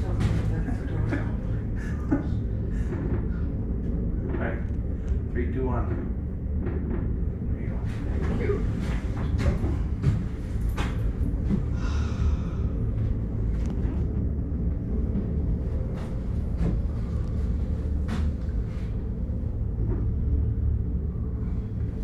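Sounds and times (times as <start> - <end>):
gondola cabin rumble: 0.0 - 22.0.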